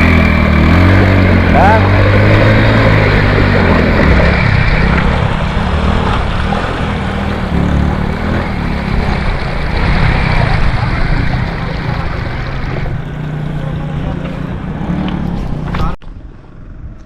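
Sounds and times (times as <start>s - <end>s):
constant rushing noise: 0.0s - 17.0s
vehicle engine running: 0.0s - 17.0s.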